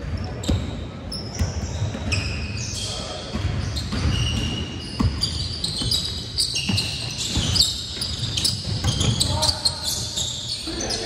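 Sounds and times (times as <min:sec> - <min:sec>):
sneakers squeaking on hardwood: 0:00.0 - 0:11.0.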